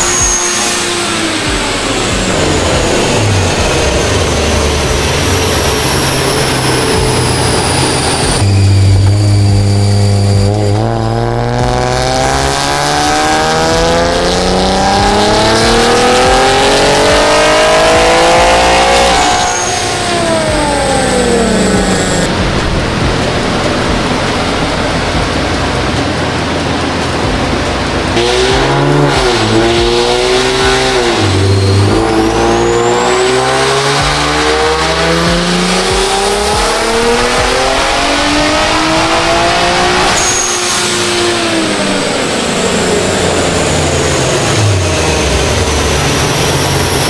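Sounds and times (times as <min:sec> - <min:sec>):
high turbo whistle: 0:00.0 - 0:22.4, 0:28.2 - 0:47.0
car engine revving on dyno: 0:00.0 - 0:47.0.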